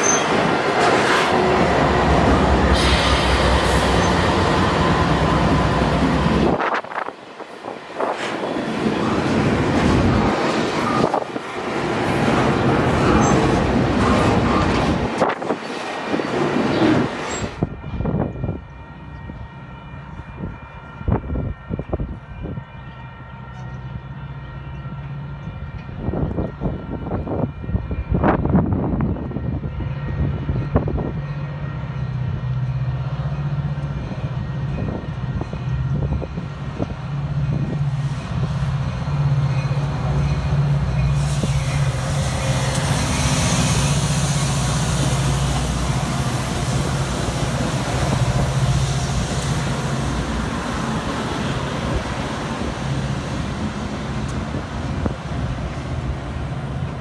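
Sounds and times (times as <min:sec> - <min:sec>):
diesel locomotive engine droning: 0:00.0 - 0:57.0
freight train wheels on rails: 0:00.0 - 0:57.0.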